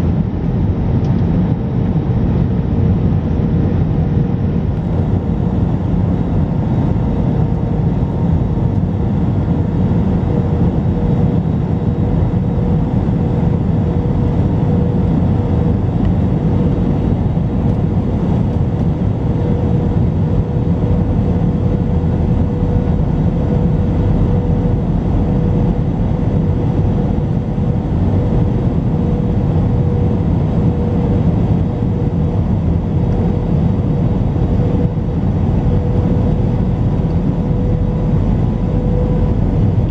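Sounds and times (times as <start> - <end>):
airplane cabin engine drone: 0.0 - 39.9
constant hum: 0.0 - 39.9.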